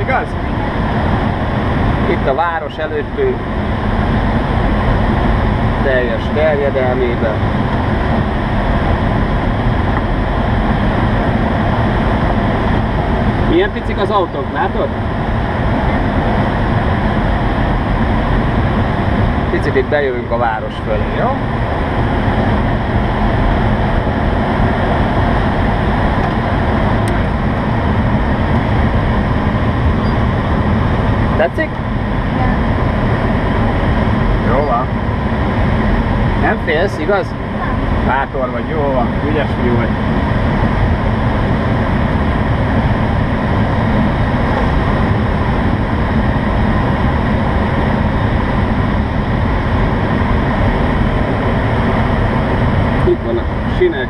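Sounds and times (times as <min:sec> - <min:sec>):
wind noise in glider cockpit: 0:00.0 - 0:54.0.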